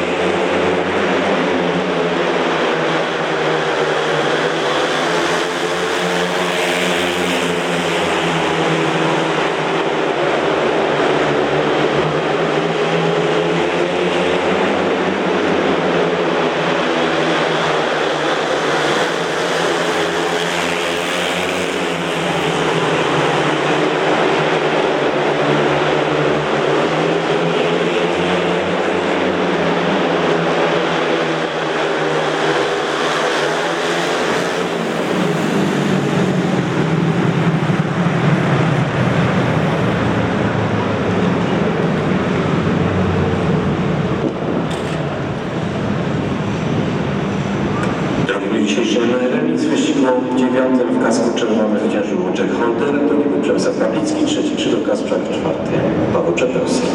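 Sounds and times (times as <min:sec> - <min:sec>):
motorcycle engines racing: 0:00.0 - 0:56.9.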